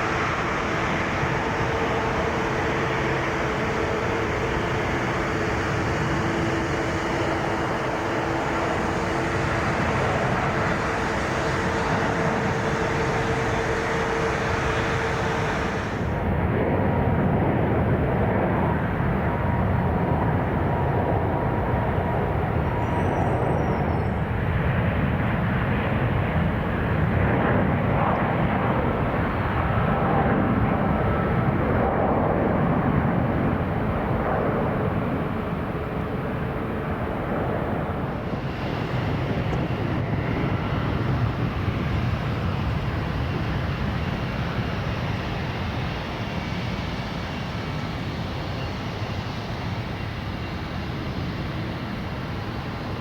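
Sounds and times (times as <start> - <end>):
arriving airliner jet noise: 0.0 - 53.0
jet engines at high power: 0.0 - 53.0.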